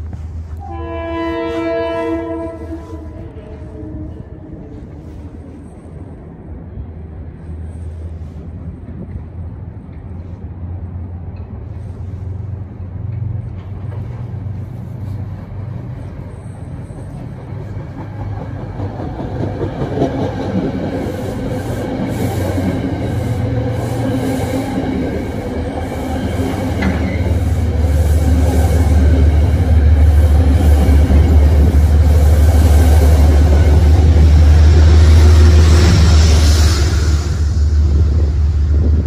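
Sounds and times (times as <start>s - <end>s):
train rumbling past: 0.0s - 39.0s.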